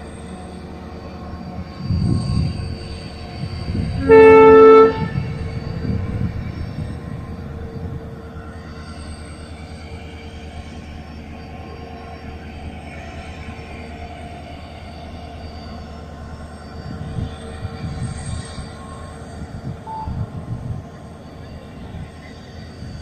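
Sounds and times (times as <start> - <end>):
distant train rumble: 0.0 - 23.0
faint steady tones: 0.0 - 23.0.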